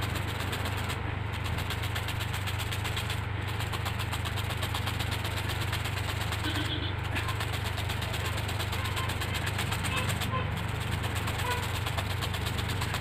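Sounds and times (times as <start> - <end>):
fast even ticking: 0.0 - 13.0
machine hum: 0.0 - 13.0.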